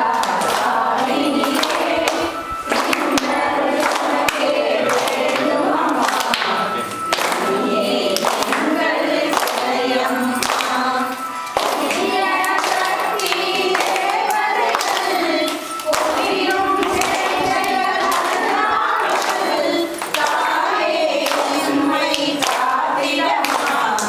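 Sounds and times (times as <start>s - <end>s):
hands clapping in rhythm: 0.0s - 24.0s
women and girls singing: 0.0s - 24.0s.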